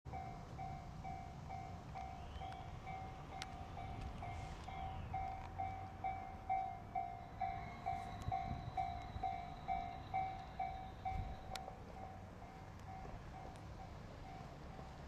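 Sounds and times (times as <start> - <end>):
level crossing warning bell dinging: 0.1 - 15.0.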